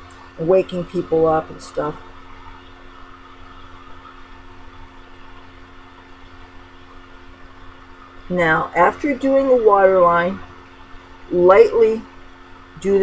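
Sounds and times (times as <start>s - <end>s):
electric fans humming: 0.0s - 13.0s.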